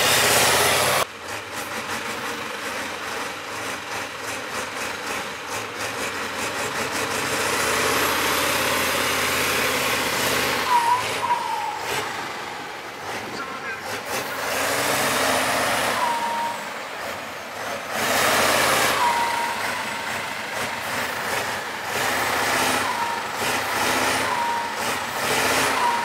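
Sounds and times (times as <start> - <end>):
truck diesel engine working: 0.0 - 26.0.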